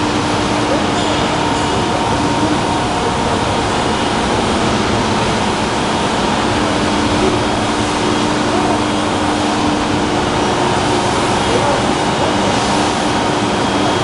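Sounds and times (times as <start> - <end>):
faint hum tones: 0.0 - 14.0
steady mechanical running noise: 0.0 - 14.0.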